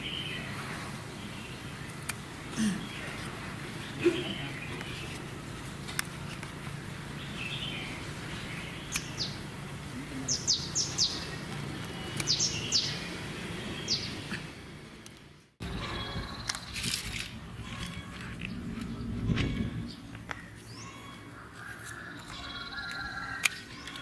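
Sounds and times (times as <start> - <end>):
birds chirping: 0.0 - 24.0
outdoor background hum: 0.0 - 24.0.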